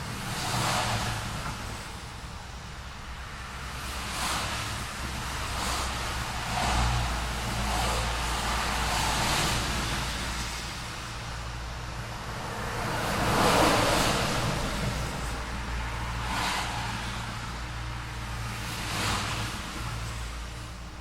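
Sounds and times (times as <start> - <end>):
cars passing: 0.0 - 21.0
low engine rumble: 1.0 - 21.0.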